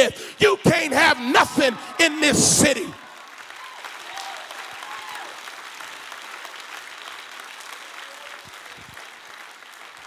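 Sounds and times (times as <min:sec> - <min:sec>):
congregation applauding: 0:00.4 - 0:10.0.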